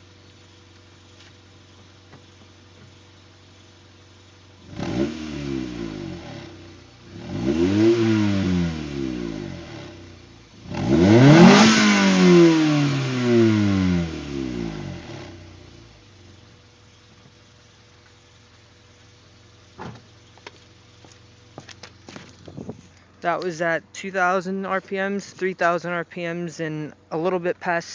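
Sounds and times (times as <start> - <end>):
car engine revving from idle: 0.0 - 23.2.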